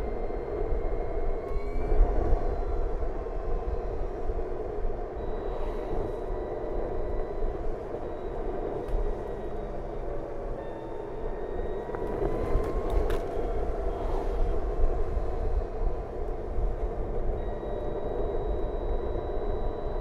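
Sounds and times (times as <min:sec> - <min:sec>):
wind and tyre noise: 0:00.0 - 0:20.0.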